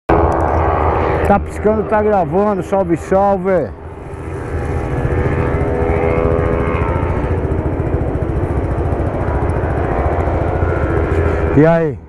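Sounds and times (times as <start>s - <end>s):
motorcycle engine rumbling: 0.1s - 12.0s.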